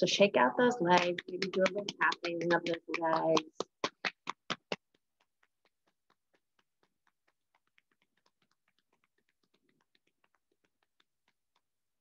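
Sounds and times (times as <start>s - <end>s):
hands tapping on legs: 0.2s - 12.0s.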